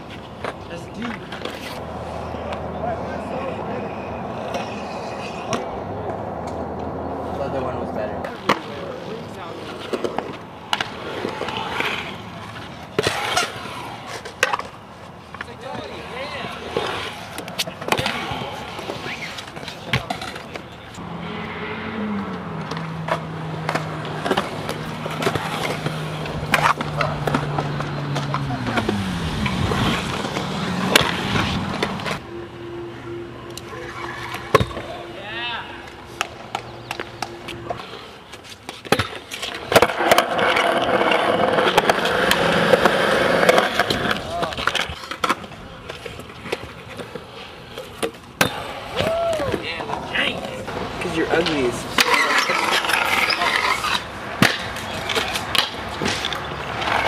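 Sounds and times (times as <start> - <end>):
scooter wheels rolling on concrete: 0.0 - 57.0.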